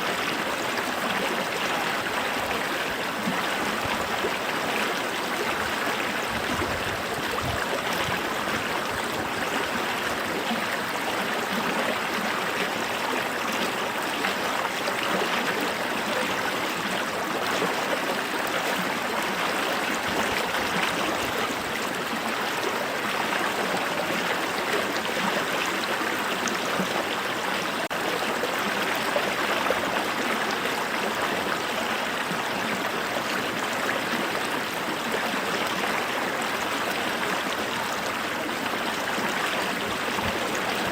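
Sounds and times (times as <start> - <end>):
creek water running over rocks: 0.0 - 40.9.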